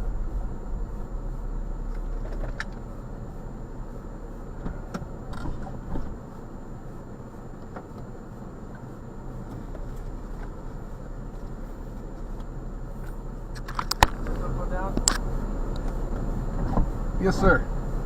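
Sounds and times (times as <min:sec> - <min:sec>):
car interior low hum: 0:00.0 - 0:18.0.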